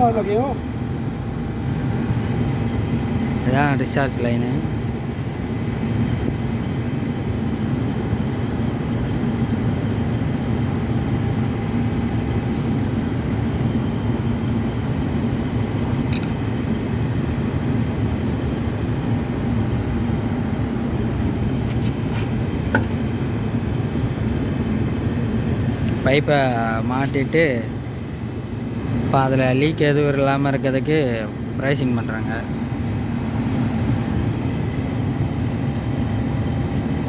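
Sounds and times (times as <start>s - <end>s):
faint high whine: 0.0s - 37.0s.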